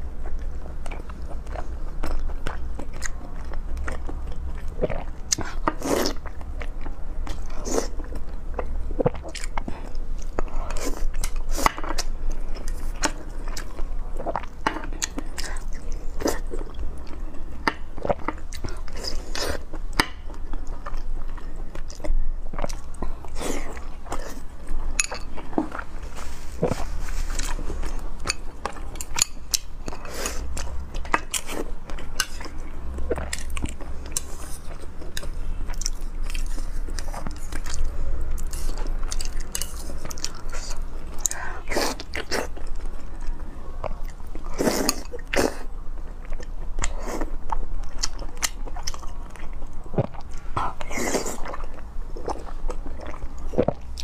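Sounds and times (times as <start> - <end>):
steady low hum: 0.0 - 54.0
close chewing: 0.2 - 54.0.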